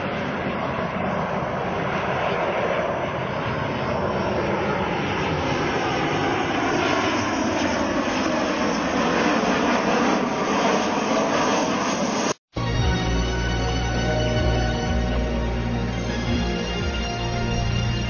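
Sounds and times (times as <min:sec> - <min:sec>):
jet airliner passing low: 0:00.0 - 0:18.0.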